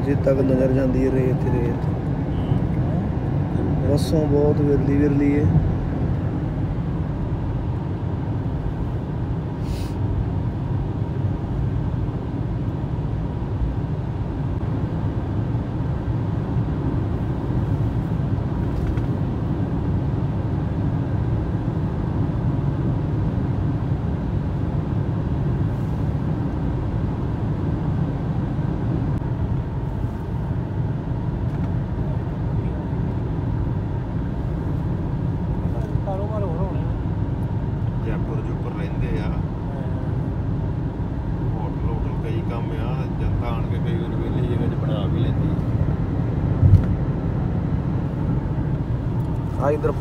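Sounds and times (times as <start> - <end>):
car engine: 0.0 - 50.0.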